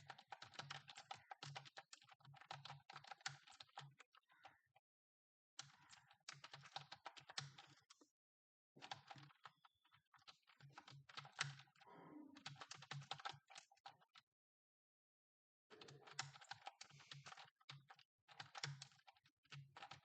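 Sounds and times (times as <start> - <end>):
fast keyboard typing: 0.0 - 4.6, 5.6 - 8.1, 8.8 - 11.8, 12.4 - 14.2, 15.7 - 20.0.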